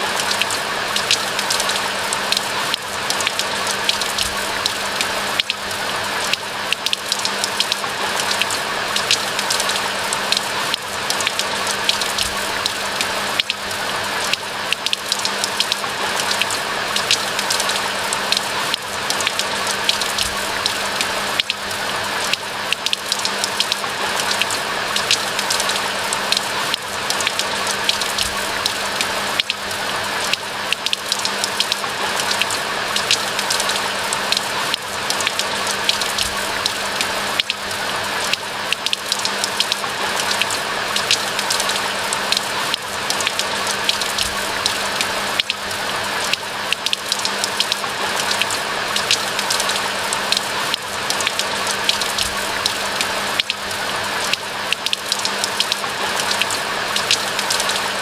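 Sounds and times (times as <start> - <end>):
raindrops ticking: 0.0 - 58.0
steady rain falling: 0.0 - 58.0.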